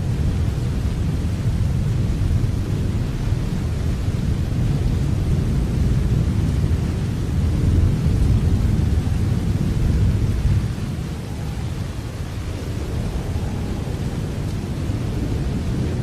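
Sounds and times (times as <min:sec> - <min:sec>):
rolling thunder rumble: 0:00.0 - 0:16.0
steady rain: 0:00.0 - 0:16.0.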